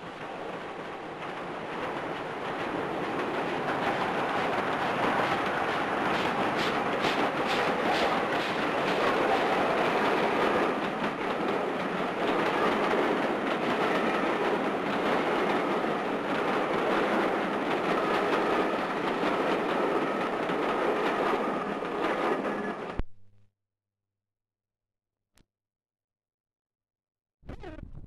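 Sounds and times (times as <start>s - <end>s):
wheels clattering over rail joints: 0.0s - 22.7s
train coaches rumbling past: 0.0s - 23.0s.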